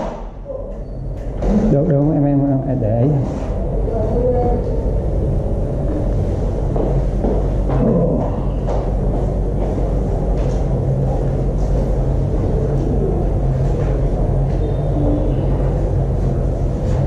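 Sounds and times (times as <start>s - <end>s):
low rumbling hum: 0.0s - 17.0s.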